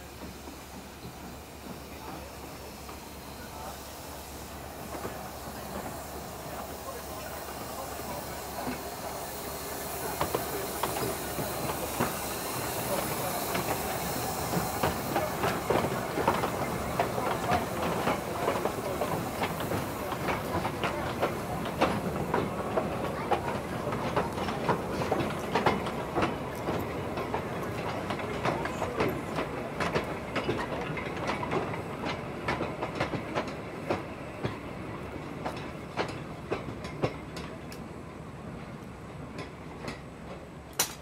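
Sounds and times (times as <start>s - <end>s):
steam locomotive hiss: 0.0s - 40.6s
train wheels clicking over rail joints: 0.1s - 41.0s.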